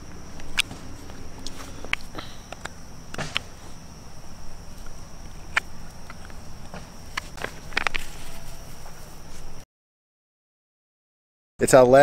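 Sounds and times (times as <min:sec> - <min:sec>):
insects calling: 0:00.0 - 0:09.6.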